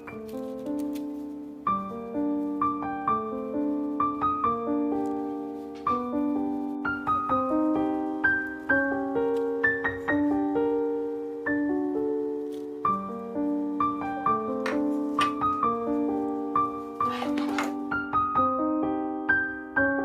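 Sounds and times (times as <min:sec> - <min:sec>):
solo piano melody: 0:00.0 - 0:20.0.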